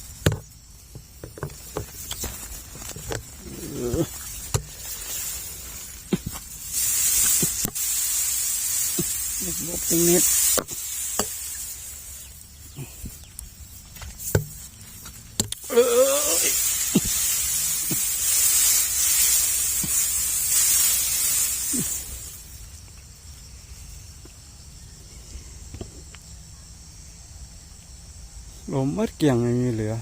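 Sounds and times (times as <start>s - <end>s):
insects trilling: 0.0s - 30.0s
loud hissing rustle: 0.0s - 30.0s.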